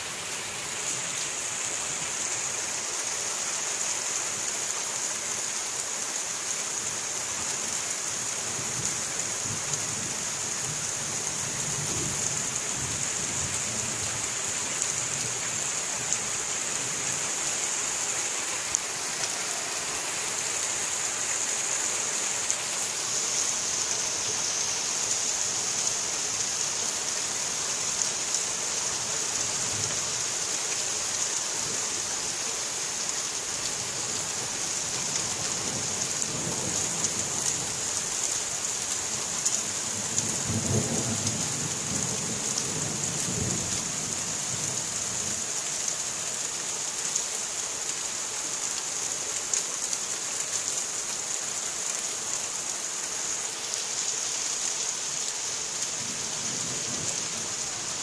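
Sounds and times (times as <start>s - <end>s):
rain hissing: 5.1s - 58.0s.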